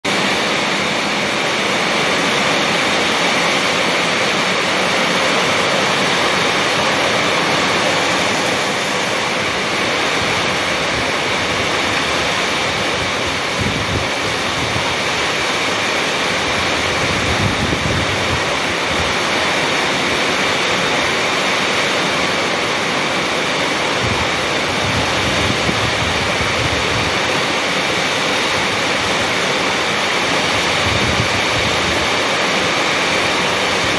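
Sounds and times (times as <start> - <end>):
heavy rain pouring on pavement: 0.0 - 33.9
wind rumbling on microphone: 0.2 - 21.0, 23.4 - 33.9.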